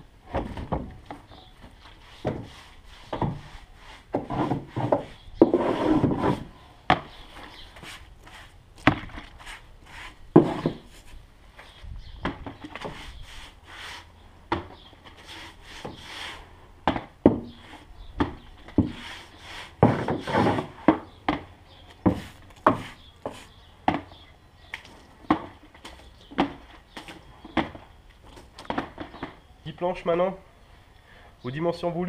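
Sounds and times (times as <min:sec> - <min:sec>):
wood rubbing and scraping: 0:00.3 - 0:29.4.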